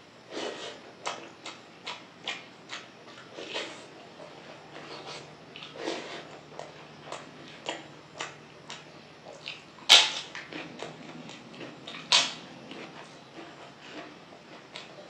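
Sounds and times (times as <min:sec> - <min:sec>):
wet chewing and lip smacks: 0:01.0 - 0:15.0.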